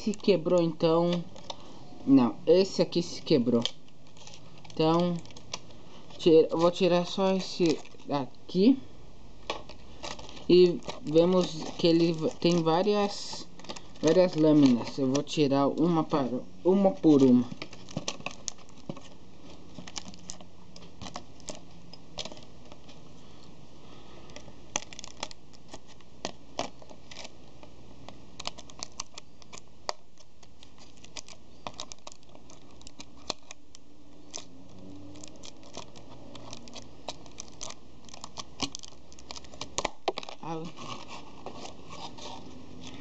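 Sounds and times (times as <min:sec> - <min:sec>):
plastic packaging crackling: 0:00.0 - 0:01.8, 0:02.6 - 0:08.8, 0:09.4 - 0:23.0, 0:23.9 - 0:43.0.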